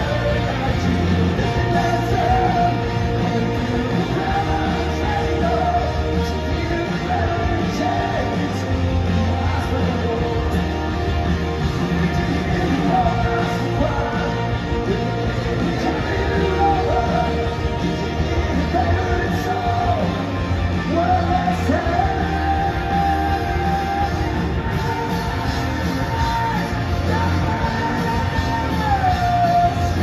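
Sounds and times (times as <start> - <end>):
live rock band with singing: 0.0 - 30.0.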